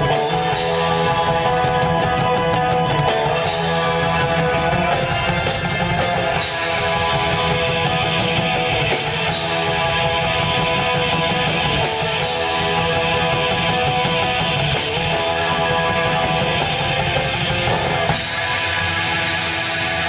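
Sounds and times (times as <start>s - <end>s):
rock band playing live: 0.0s - 20.0s.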